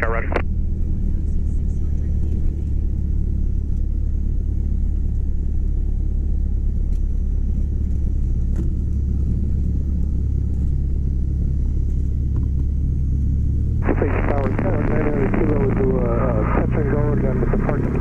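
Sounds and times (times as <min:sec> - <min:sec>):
airplane engine drone in cabin: 0:00.0 - 0:18.0.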